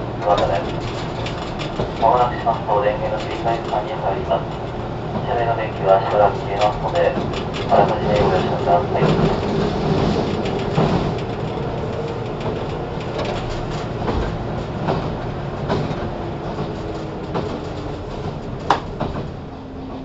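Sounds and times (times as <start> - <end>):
train rumble: 0.0 - 20.0
wheels clicking over rail joints: 0.2 - 5.6, 6.2 - 19.5.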